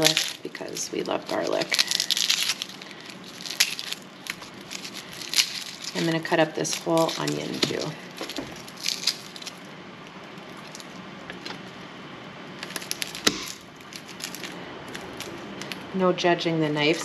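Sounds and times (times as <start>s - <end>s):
garlic peel crackling: 0.0s - 11.8s, 12.5s - 15.9s.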